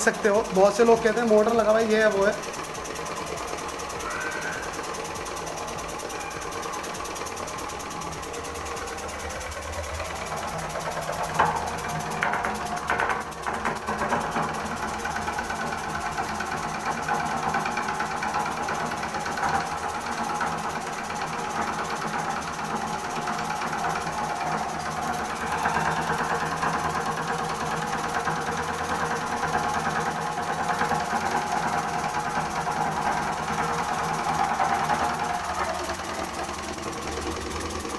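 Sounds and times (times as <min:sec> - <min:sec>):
model steam engine chattering: 0:00.0 - 0:37.9.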